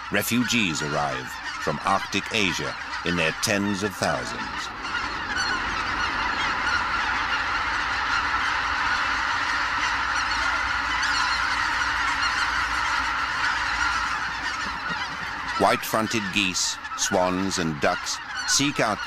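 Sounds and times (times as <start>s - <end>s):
flock of geese honking: 0.0s - 19.0s.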